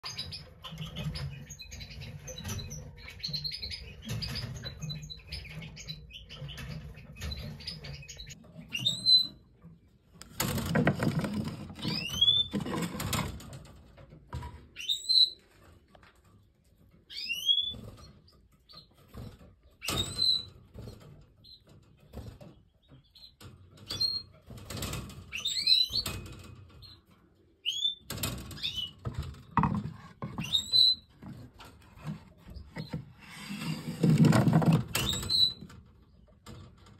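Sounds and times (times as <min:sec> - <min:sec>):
canaries chirping: 0:00.0 - 0:13.6, 0:14.5 - 0:36.9.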